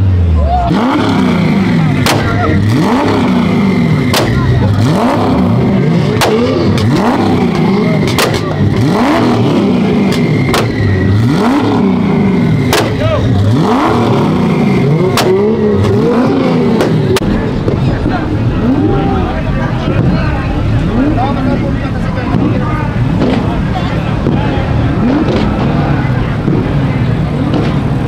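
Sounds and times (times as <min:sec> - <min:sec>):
car engine revving: 0:00.0 - 0:28.0
exhaust pops: 0:01.0 - 0:28.0.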